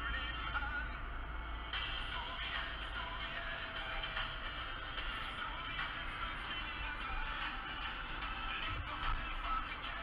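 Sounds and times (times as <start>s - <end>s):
background music with wavering melody: 0.0s - 10.0s
car driving rumble: 0.0s - 10.0s.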